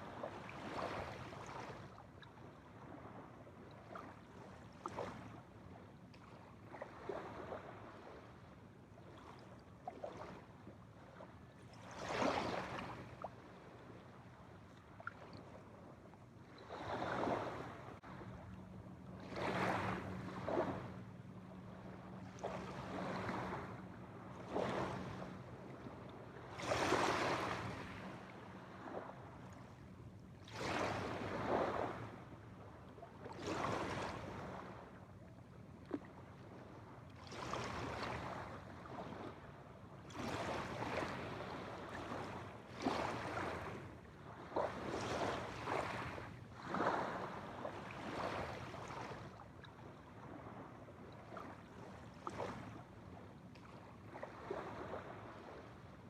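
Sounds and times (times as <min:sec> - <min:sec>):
small waves splashing on shore: 0:00.0 - 0:56.0.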